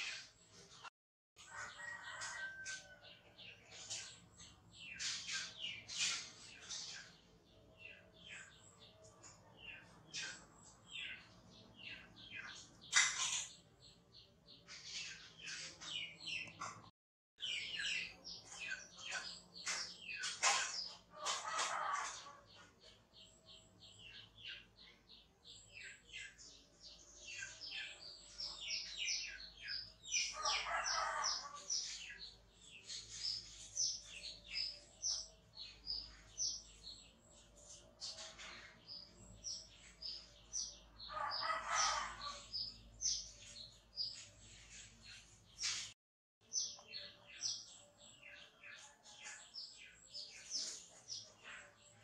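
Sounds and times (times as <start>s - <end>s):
small birds chirping: 1.5s - 52.0s.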